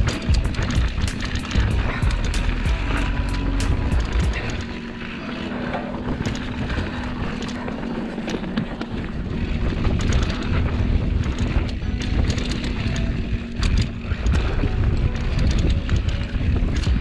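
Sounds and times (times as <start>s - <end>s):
bike rattling over bumps: 0.0s - 17.0s
bike tyres rumbling on dirt: 0.0s - 17.0s
wind on microphone: 0.0s - 17.0s.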